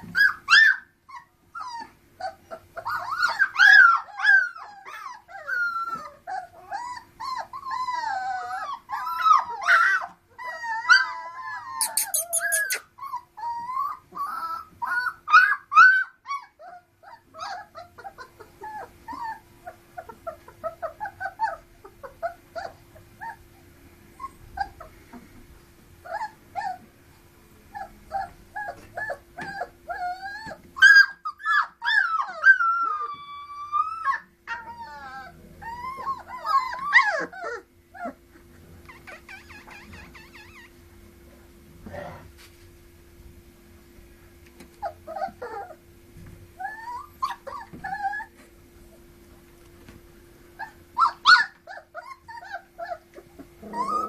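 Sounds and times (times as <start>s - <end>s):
puppies whimpering and crying: 0.0s - 41.0s, 44.6s - 54.0s.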